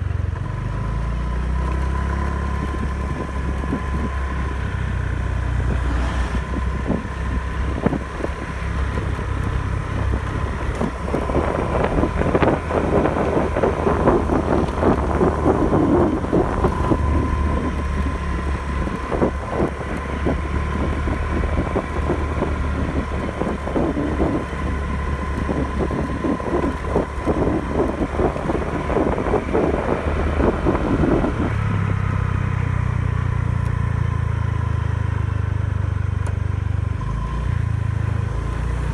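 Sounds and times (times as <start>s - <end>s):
scooter engine running: 0.0s - 38.9s
wind crackling over microphone: 1.4s - 34.6s.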